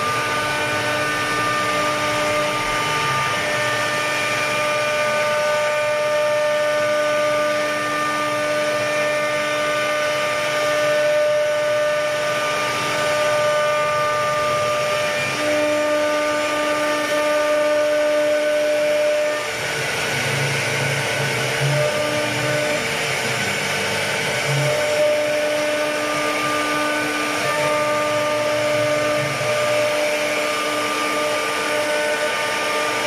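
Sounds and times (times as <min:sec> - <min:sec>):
router spindle cutting wood: 0:00.0 - 0:33.0.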